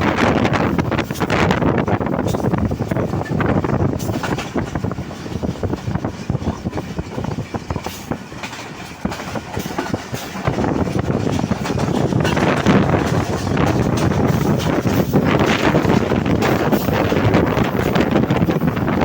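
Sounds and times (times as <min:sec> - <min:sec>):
steady rushing noise: 0:00.0 - 0:19.0
train wheels clattering over rails: 0:00.0 - 0:19.0.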